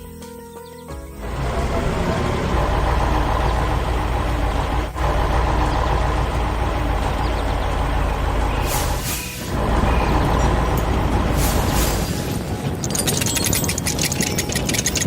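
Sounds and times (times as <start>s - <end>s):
heavy vehicle engine rumbling: 1.2s - 15.0s.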